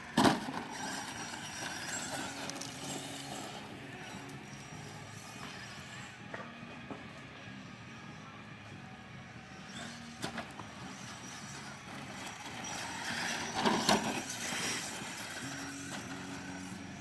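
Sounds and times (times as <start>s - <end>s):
rc car motor humming: 0.0s - 17.0s.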